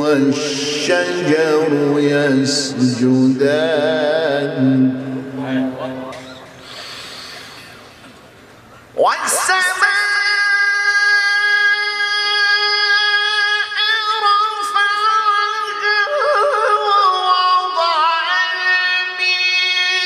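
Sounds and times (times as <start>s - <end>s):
man reciting melodically: 0.0s - 6.6s, 9.0s - 20.0s.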